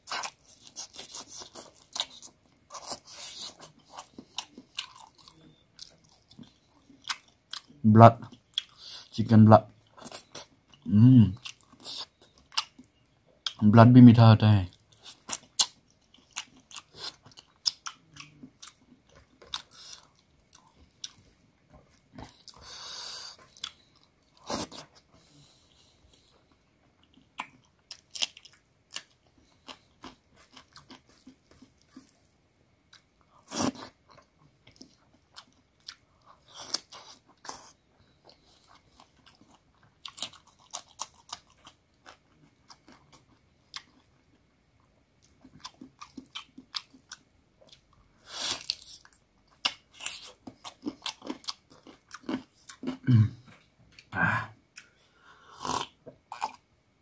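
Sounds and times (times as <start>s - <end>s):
person chewing with wet smacks: 0.0s - 9.2s, 9.8s - 13.6s, 14.7s - 54.1s.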